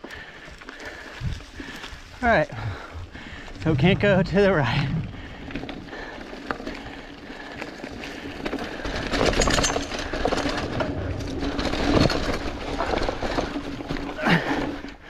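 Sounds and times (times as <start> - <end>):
bike tyres crunching through leaves: 0.0 - 9.4, 10.0 - 14.9
bike rattling over ground: 0.0 - 15.0.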